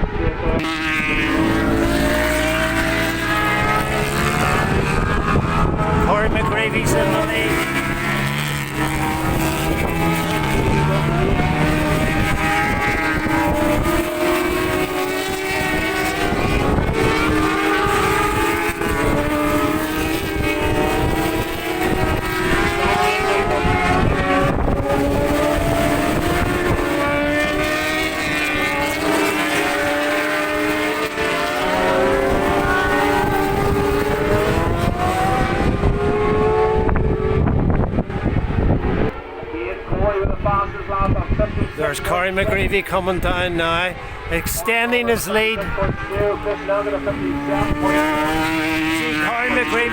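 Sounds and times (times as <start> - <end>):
racing motorcycle engines: 0.0 - 49.9
wind buffeting microphone: 0.0 - 49.9.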